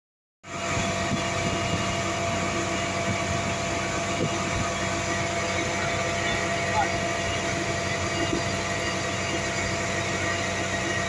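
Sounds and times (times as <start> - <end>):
diesel engine running: 0.4 - 11.0.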